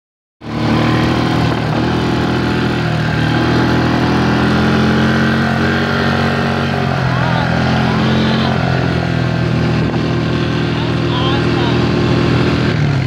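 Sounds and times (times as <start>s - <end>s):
quad bike engine running: 0.4s - 13.0s.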